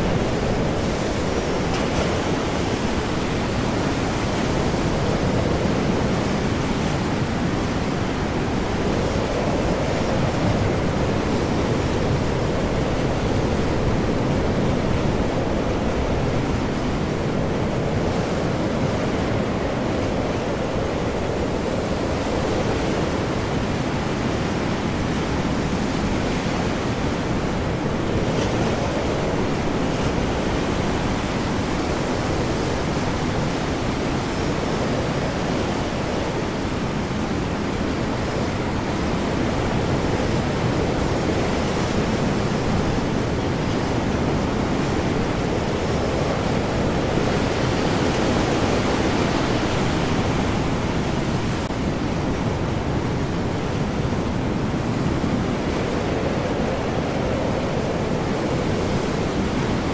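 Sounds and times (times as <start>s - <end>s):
heavy ocean waves: 0.0s - 59.9s
high winds: 0.0s - 59.9s.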